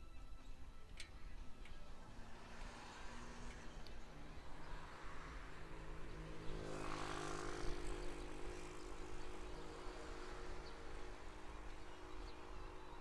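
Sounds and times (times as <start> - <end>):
low rumble of wind and road: 0.0 - 13.0
engine hum: 1.2 - 13.0
motor traffic passing: 1.3 - 13.0.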